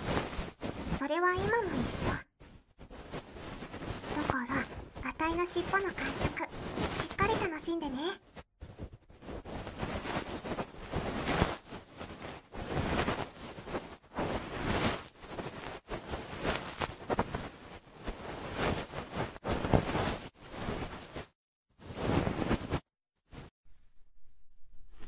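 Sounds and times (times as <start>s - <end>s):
fur brushing over microphone: 0.0s - 7.8s, 8.6s - 23.5s.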